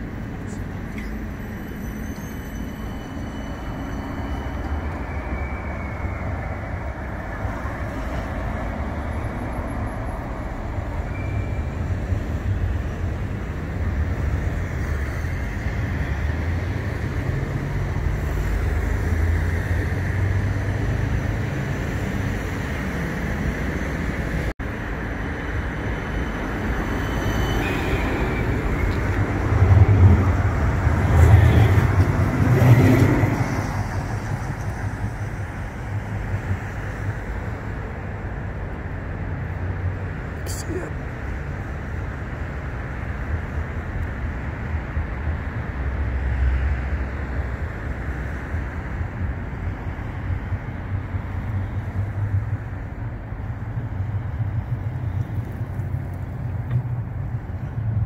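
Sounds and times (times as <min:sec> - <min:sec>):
tram rumbling on rails: 0:00.0 - 0:58.0.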